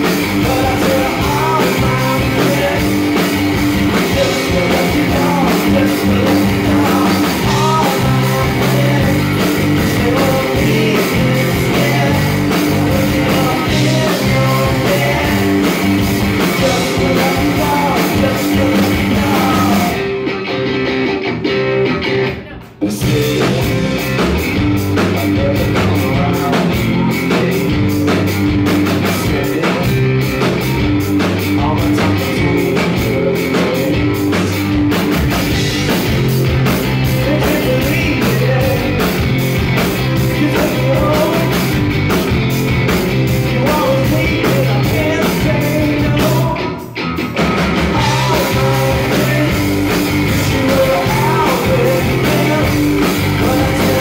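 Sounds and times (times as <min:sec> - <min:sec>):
lead singer singing: 0:00.0 - 0:20.2, 0:22.5 - 0:24.2, 0:24.8 - 0:28.2, 0:29.0 - 0:30.2, 0:31.4 - 0:34.7, 0:37.1 - 0:39.4, 0:40.1 - 0:41.8, 0:43.3 - 0:47.0, 0:47.9 - 0:54.0
live rock band playing: 0:00.0 - 0:54.0.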